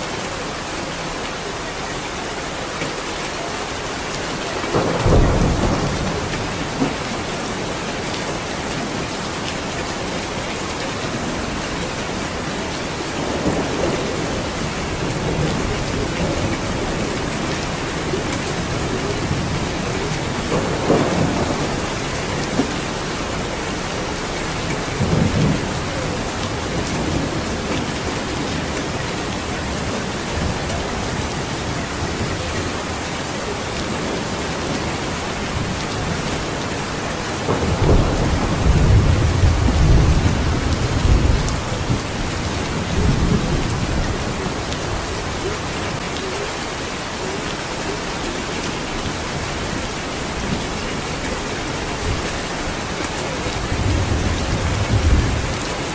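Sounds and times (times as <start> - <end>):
steady rain falling: 0.0 - 55.9
thunder rumbling: 4.7 - 9.1, 11.2 - 46.0, 49.3 - 55.9.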